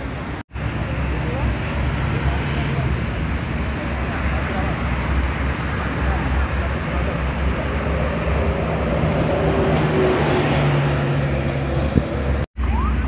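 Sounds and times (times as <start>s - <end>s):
bus engine humming: 0.0s - 13.0s
highway traffic noise: 0.0s - 13.0s.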